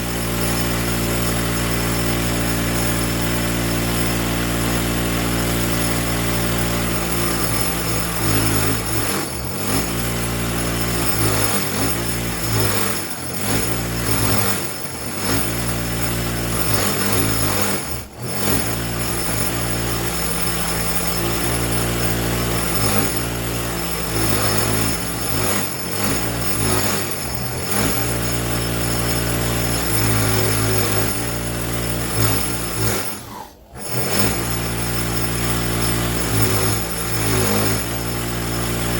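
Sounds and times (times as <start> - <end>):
wire wheel grinder humming: 0.0 - 38.9
wrench pressed on wire wheel: 5.4 - 38.9.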